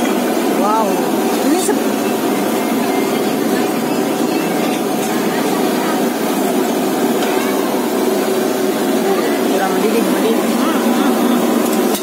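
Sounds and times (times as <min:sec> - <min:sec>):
stove burner flame hissing: 0:00.0 - 0:12.0.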